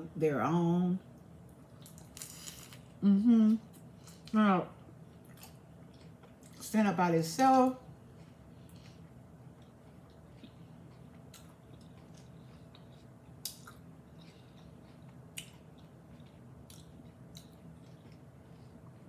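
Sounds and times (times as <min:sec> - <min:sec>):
faint low hum: 0:00.0 - 0:19.0
chewing crunchy taco: 0:01.4 - 0:03.0, 0:03.6 - 0:06.7, 0:07.8 - 0:19.0.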